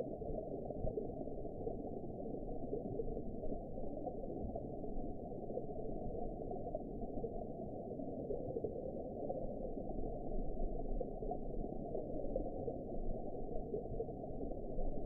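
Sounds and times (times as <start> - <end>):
underwater water noise: 0.0 - 15.0.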